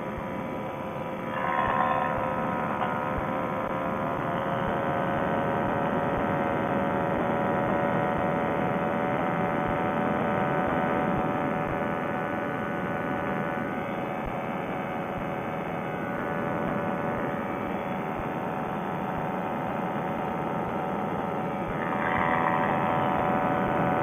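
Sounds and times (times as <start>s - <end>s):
paramotor engine and propeller droning: 2.3s - 24.0s.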